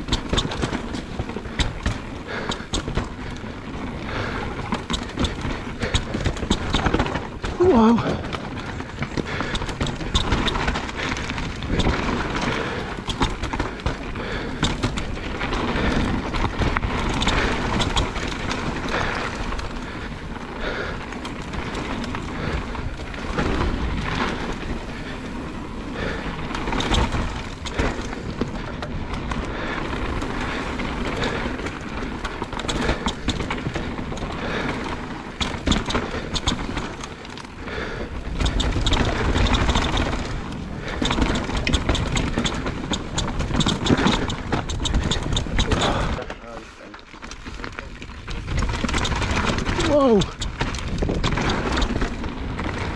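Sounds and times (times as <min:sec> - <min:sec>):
bike rattling and knocking: 0:00.0 - 0:52.9
bike tyre noise on dirt: 0:00.0 - 0:52.9.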